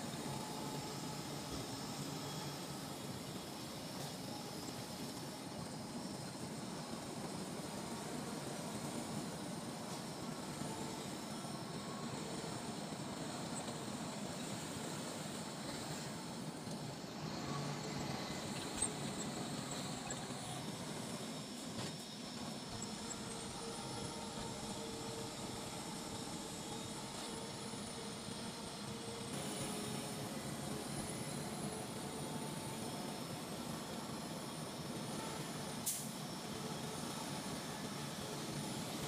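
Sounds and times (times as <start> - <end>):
bus engine and road noise: 0.0 - 39.0.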